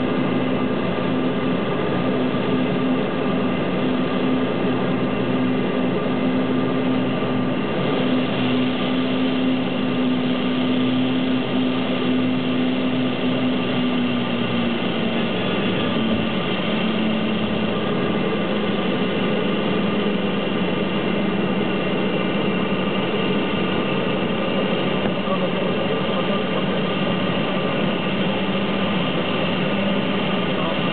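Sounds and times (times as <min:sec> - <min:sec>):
turboprop engines droning: 0:00.0 - 0:30.9.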